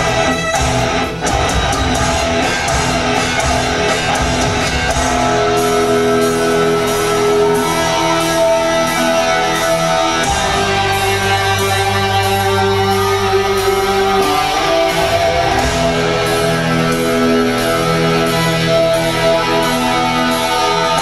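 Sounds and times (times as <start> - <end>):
rock band playing live: 0.0 - 21.0
long held notes: 2.0 - 21.0.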